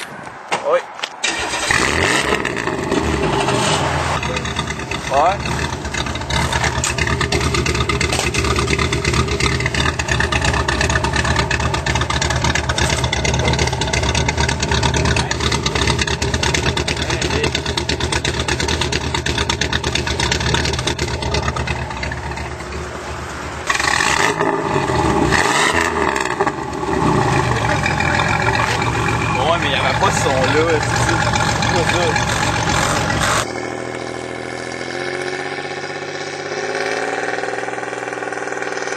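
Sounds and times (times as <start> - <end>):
car engine idling: 1.2 - 38.9.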